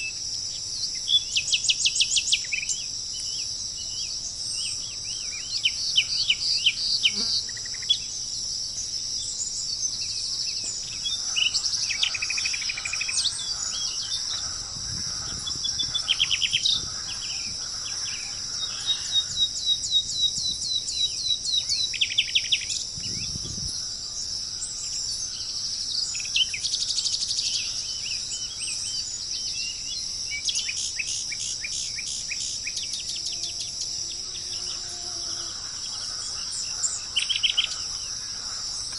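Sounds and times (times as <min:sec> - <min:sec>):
insect chorus: 0:00.0 - 0:38.9
birds calling: 0:00.9 - 0:38.9.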